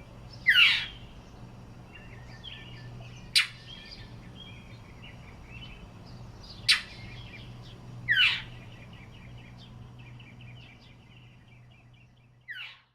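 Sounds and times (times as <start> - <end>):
faint bird twittering: 0.0 - 12.9
mockingbird harsh calls: 0.2 - 12.9.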